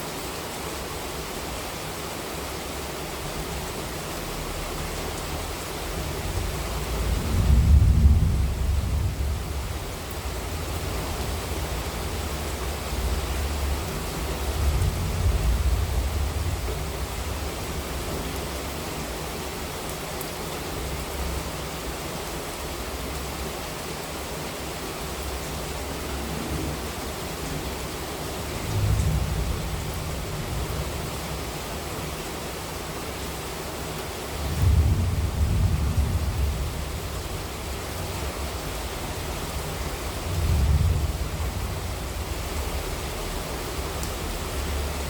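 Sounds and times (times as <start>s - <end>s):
heavy rain hissing: 0.0s - 45.0s.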